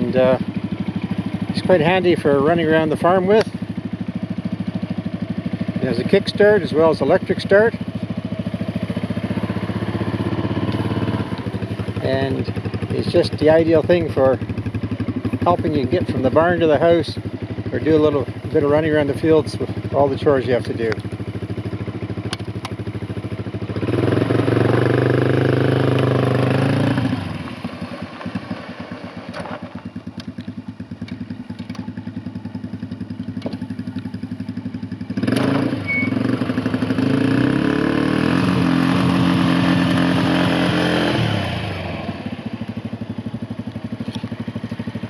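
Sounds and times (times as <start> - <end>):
small engine revving and idling: 0.0 - 45.0.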